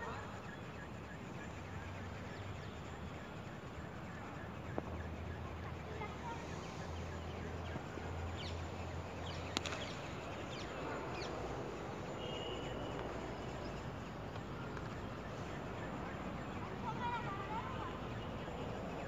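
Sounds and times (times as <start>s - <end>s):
faint high chirps: 0.0s - 19.0s
open-air background noise: 0.0s - 19.0s.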